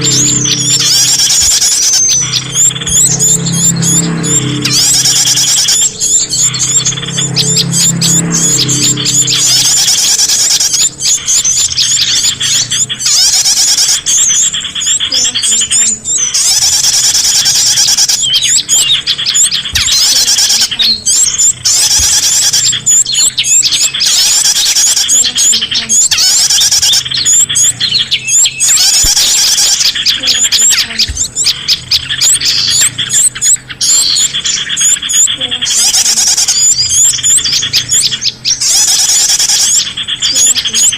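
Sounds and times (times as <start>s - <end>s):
many small birds chirping: 0.0s - 40.9s.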